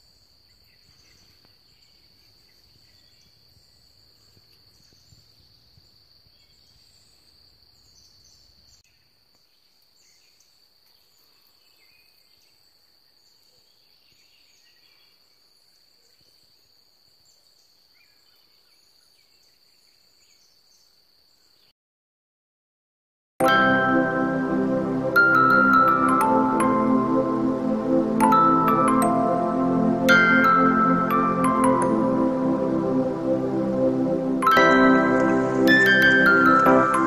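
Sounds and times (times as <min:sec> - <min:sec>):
insect drone: 0:00.0 - 0:21.7, 0:23.8 - 0:37.0.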